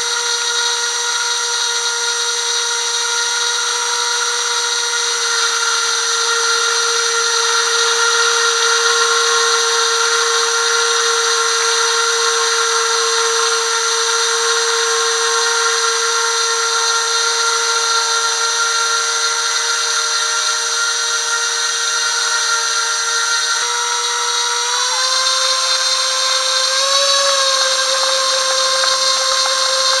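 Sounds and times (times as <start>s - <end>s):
small electric motors whining: 0.0s - 30.0s.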